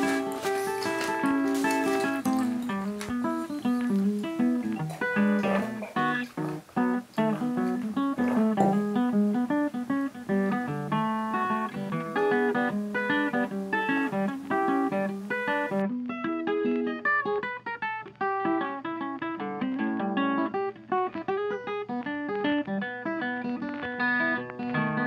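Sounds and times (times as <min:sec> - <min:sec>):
plucked acoustic guitar tune: 0:00.0 - 0:25.0.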